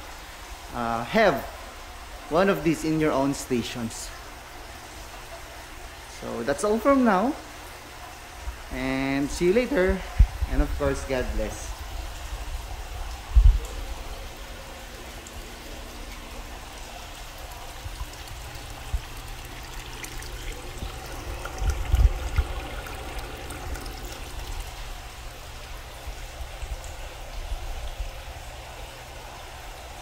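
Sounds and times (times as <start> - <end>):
water pouring and splashing: 0.0 - 30.0.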